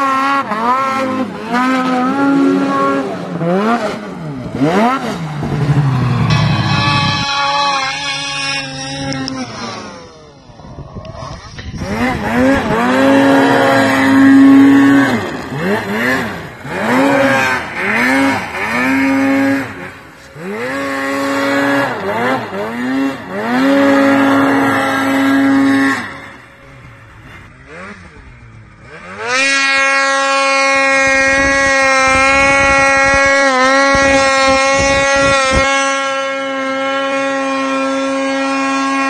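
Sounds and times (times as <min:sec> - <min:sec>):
snowmobile engines revving: 0:00.0 - 0:39.0.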